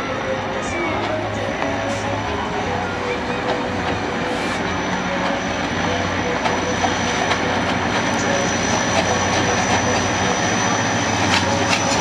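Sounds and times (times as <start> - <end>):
diesel locomotive engine hum: 0.0 - 12.0
wheels clicking over rail joints: 0.4 - 12.0.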